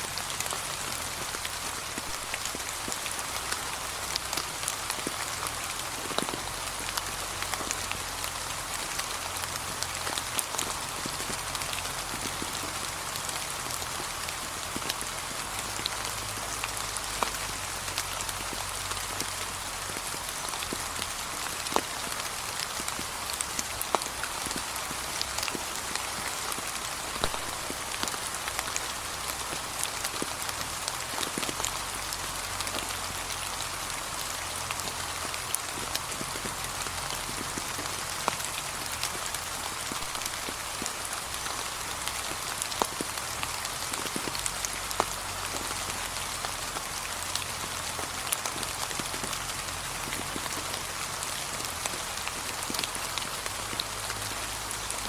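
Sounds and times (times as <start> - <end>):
rain pattering on leaves: 0.0 - 55.0
raindrops ticking: 0.1 - 55.0.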